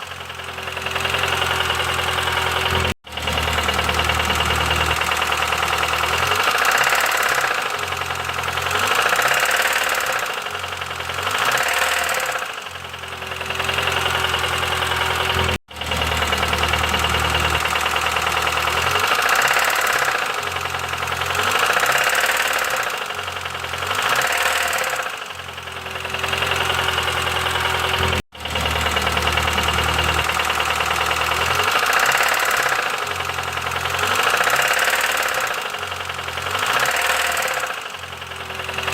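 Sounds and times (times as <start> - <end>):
car engine revving with knock: 0.0 - 38.9.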